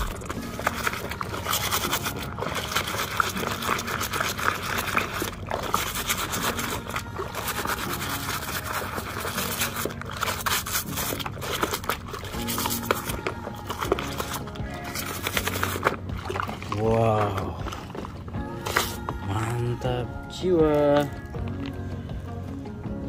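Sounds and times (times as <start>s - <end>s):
brush scrubbing toy: 0.0s - 21.5s
water trickling: 0.0s - 22.1s.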